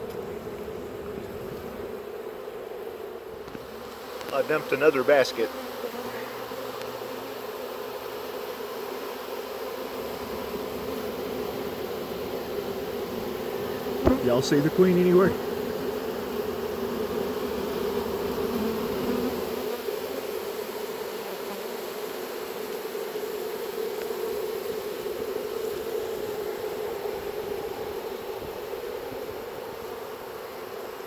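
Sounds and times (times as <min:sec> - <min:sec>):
bee swarm buzzing: 0:00.0 - 0:31.0.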